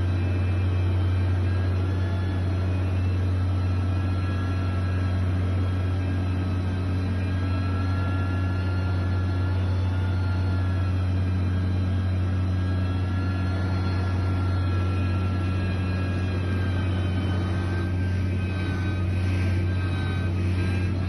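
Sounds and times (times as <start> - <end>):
diesel engine humming: 0.0 - 21.0
faint high whining: 0.0 - 21.0.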